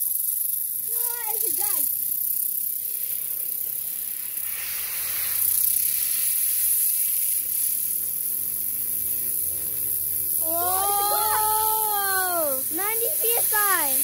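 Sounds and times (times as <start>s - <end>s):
compressed air hissing: 0.9s - 9.6s, 10.4s - 14.0s.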